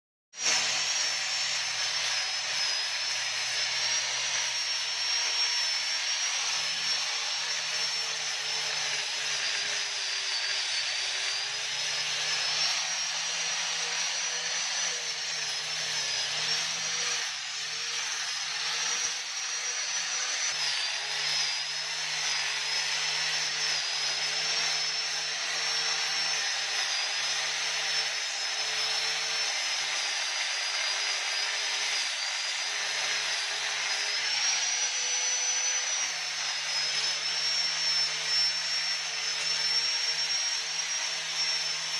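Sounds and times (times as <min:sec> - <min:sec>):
electric sander running: 0:00.4 - 0:41.9.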